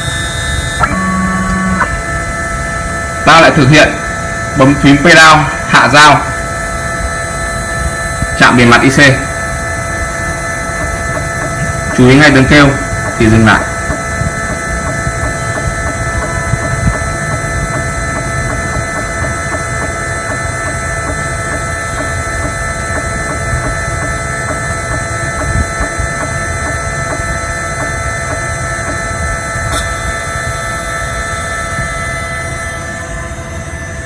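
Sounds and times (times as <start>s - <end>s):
engraving spindle motor whine: 0.0s - 34.0s.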